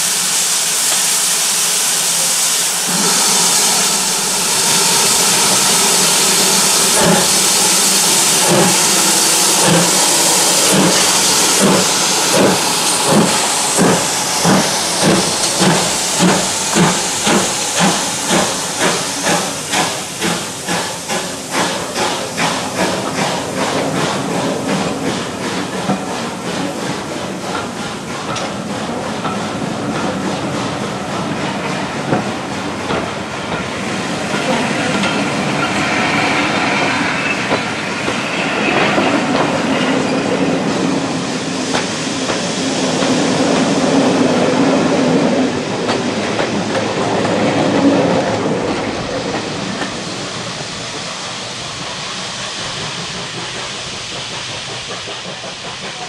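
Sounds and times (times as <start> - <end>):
loud hiss of steam: 0.0 - 56.0
steam locomotive chuffing: 0.0 - 56.0.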